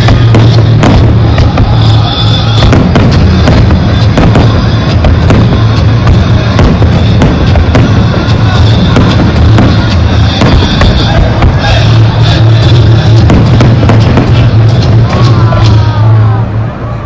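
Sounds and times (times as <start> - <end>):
firework shells bursting: 0.0 - 15.8
loud music with heavy bass: 0.0 - 16.6.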